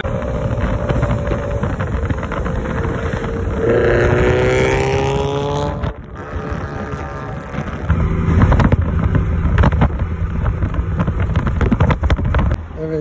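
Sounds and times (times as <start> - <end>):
car engine at full throttle: 0.0 - 13.0
road and wind rumble: 0.0 - 13.0.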